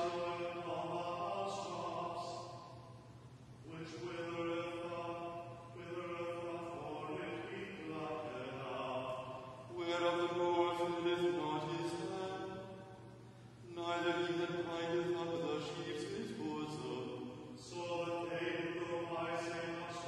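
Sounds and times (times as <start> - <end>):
person chanting psalm: 0.0 - 3.0, 3.6 - 20.0.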